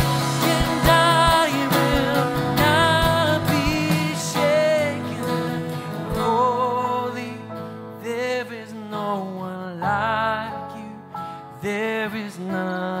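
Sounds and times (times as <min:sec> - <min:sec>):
man singing a slow worship song: 0:00.0 - 0:13.0
strummed acoustic guitar: 0:00.0 - 0:13.0.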